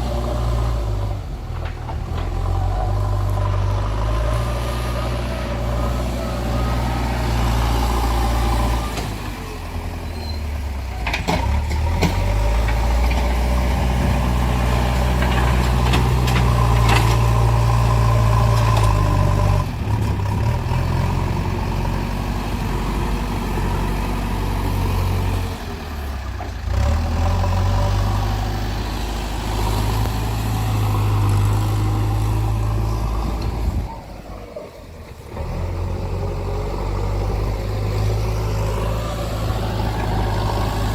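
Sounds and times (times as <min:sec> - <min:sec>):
heavy vehicle engine running: 0:00.0 - 0:40.9.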